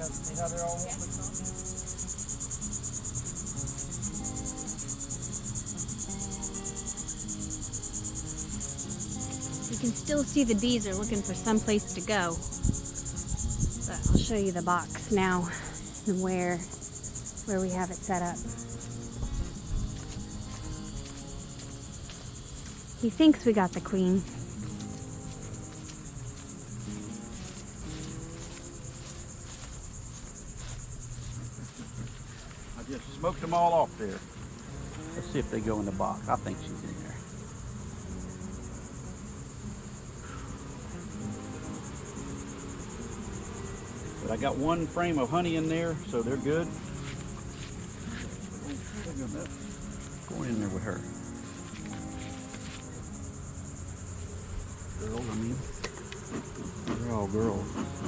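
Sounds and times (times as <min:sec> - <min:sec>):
crickets chirping: 0:00.0 - 0:58.0
high-pitched insect trill: 0:00.0 - 0:58.0
honeybees buzzing: 0:00.0 - 0:58.0.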